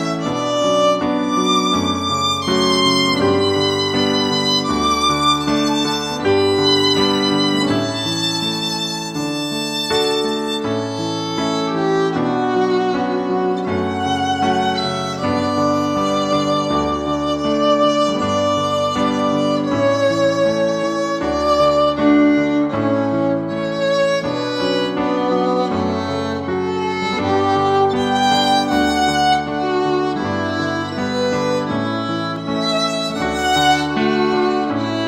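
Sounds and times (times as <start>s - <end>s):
low accompaniment: 0.0s - 35.0s
violin melody: 0.0s - 35.0s.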